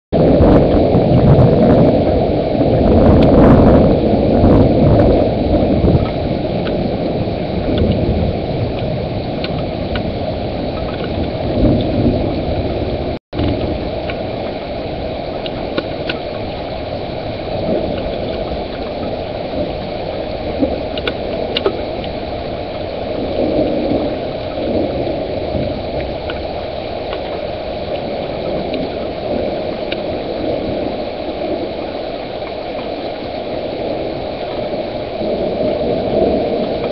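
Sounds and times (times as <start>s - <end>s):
rain rushing: 0.1s - 36.9s
raindrops ticking: 0.1s - 36.9s
thunder rumble: 0.1s - 36.9s.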